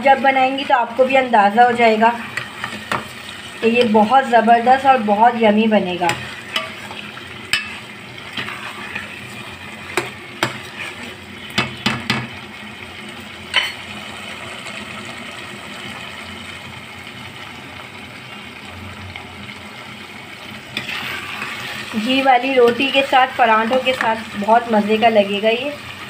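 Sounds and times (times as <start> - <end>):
curry sizzling in oil: 0.0 - 26.0.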